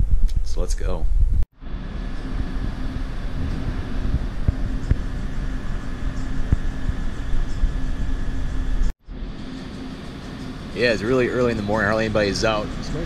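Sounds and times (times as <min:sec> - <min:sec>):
faint constant hum: 0:00.2 - 0:13.0.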